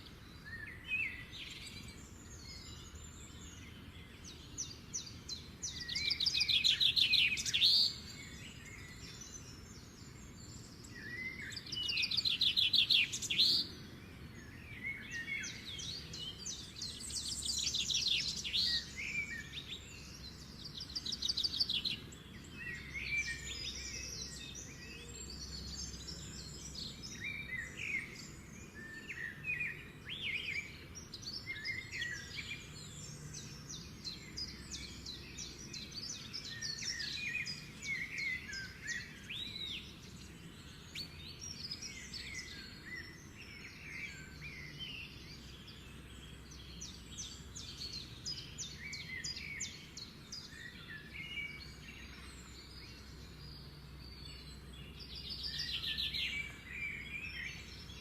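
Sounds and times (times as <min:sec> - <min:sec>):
songbirds trilling and chirping: 0:00.0 - 0:58.0.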